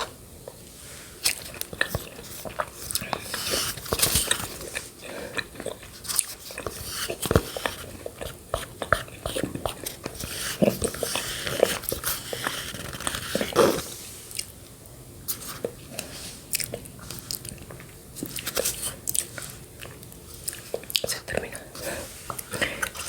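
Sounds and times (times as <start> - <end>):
wet chewing mouth sounds: 1.2 - 14.6, 15.3 - 23.0.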